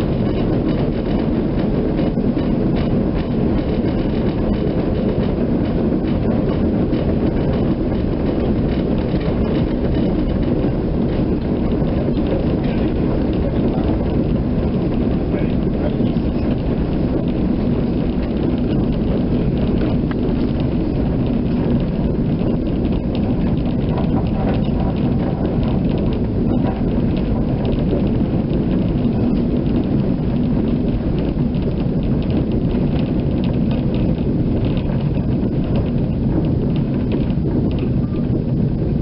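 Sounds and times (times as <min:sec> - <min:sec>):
fine rattling: 0:00.0 - 0:39.0
tram wheels rumbling on rail: 0:00.0 - 0:39.0.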